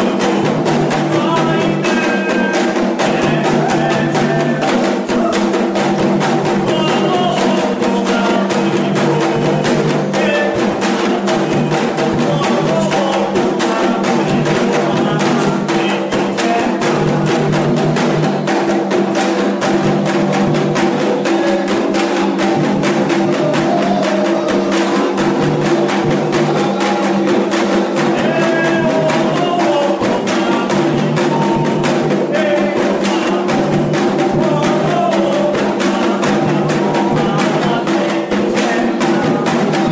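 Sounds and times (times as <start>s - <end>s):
hand drums playing fast rhythm: 0.0s - 39.9s.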